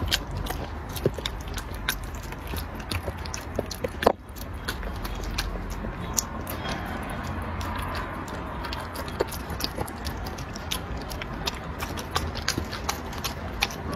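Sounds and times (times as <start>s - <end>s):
dog chewing and lapping food: 0.0s - 13.9s.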